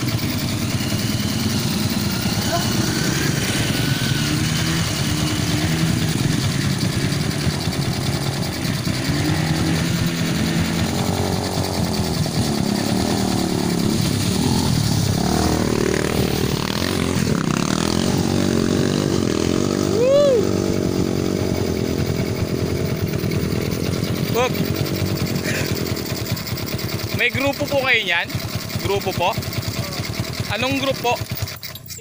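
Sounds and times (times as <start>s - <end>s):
dirt bike engines revving: 0.0s - 32.0s.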